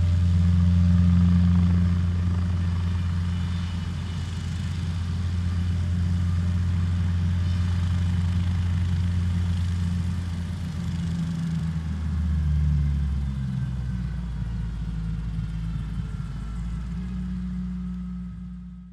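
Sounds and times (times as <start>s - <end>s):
helicopter engine and rotors: 0.0s - 18.9s.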